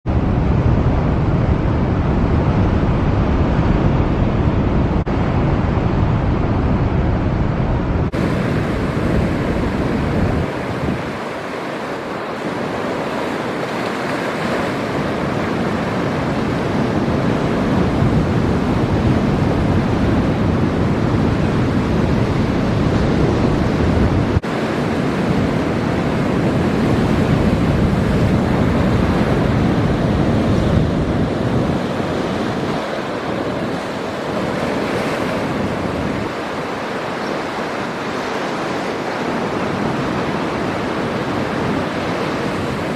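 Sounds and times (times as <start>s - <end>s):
wind buffeting microphone: 0.0s - 42.9s
heavy surf breaking: 0.1s - 42.9s.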